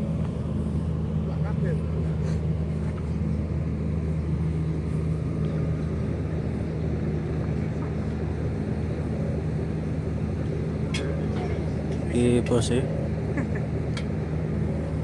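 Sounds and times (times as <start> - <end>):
generator engine droning: 0.0 - 15.0.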